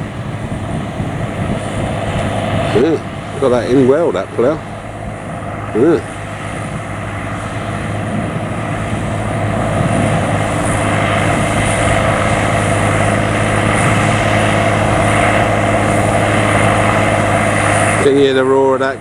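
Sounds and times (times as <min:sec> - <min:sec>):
tractor diesel engine roaring: 0:00.0 - 0:19.0.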